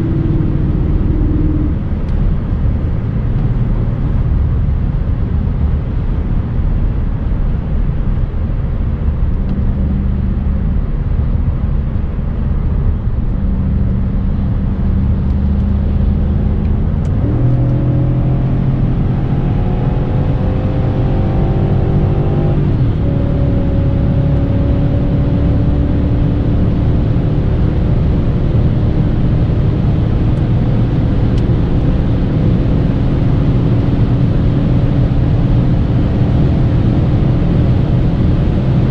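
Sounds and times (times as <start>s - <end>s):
car engine accelerating: 0.0s - 38.9s
road and wind noise: 0.0s - 38.9s.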